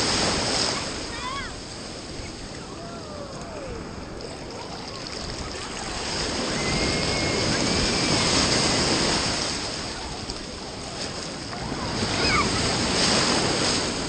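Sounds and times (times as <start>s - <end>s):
surf rushing and foaming: 0.0s - 14.0s.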